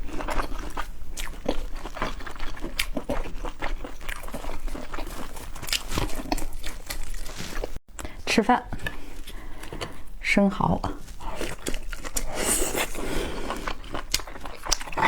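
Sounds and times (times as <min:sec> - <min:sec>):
chewing and crunching: 0:00.0 - 0:10.2, 0:10.8 - 0:15.0.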